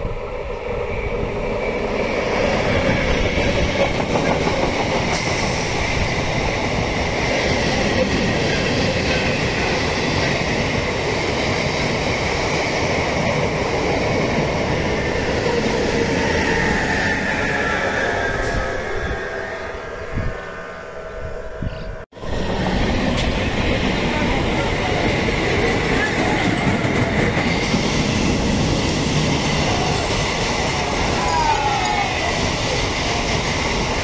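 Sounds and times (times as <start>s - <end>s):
train wheels rumbling on rail: 0.0s - 19.5s, 21.5s - 34.0s.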